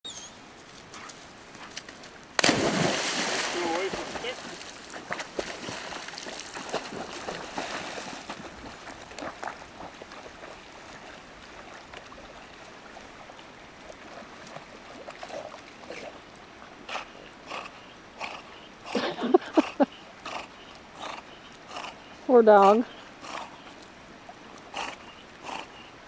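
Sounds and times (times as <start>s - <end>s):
creek water rushing: 0.4s - 26.0s.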